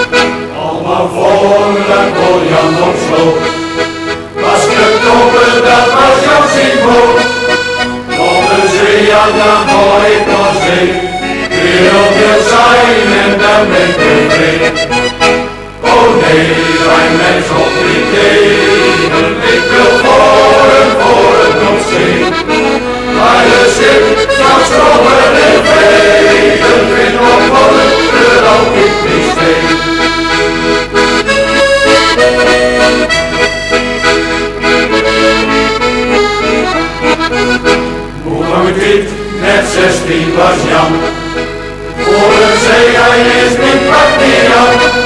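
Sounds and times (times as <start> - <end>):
folk accordion music: 0.0 - 45.0.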